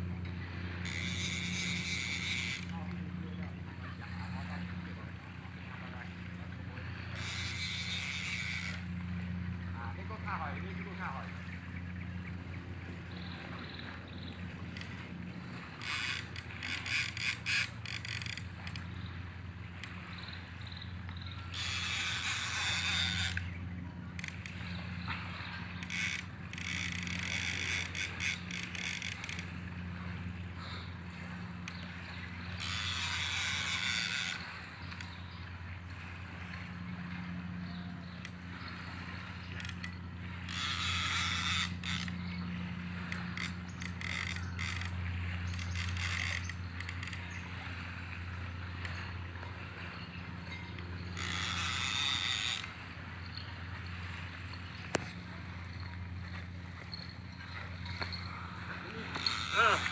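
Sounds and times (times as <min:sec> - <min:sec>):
fishing reel clicking: 0:00.0 - 0:04.8, 0:06.7 - 0:11.2, 0:13.1 - 0:59.9
steady low hum: 0:00.0 - 0:59.9.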